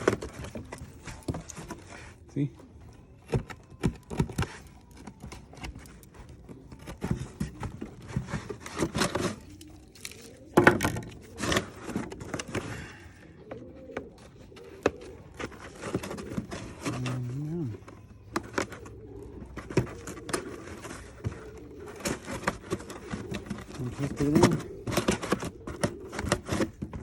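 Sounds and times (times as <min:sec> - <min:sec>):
cardboard scraping and rustling: 0:00.0 - 0:12.9, 0:13.5 - 0:27.0.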